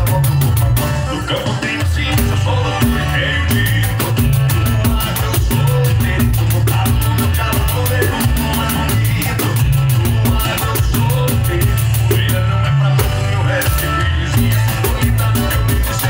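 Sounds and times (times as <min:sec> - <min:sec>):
recorded band music with bass: 0:00.0 - 0:16.0.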